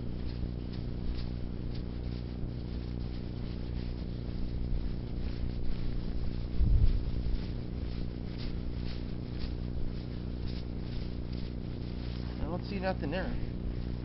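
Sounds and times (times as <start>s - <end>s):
steady low hum: 0.0s - 14.0s
snow crunching and scraping: 0.2s - 14.0s.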